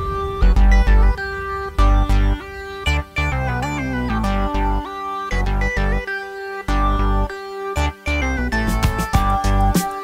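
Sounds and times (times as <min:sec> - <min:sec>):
plucked guitar-like melody: 0:00.0 - 0:10.0.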